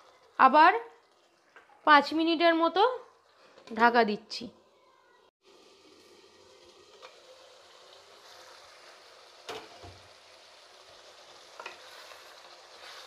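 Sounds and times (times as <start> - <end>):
curry sizzling in oil: 0.0 - 13.0.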